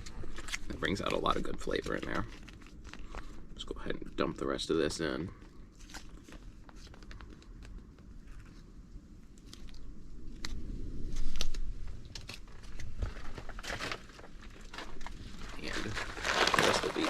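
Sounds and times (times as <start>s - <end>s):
packaging rustling: 0.0s - 4.2s, 4.9s - 8.6s, 10.4s - 17.0s.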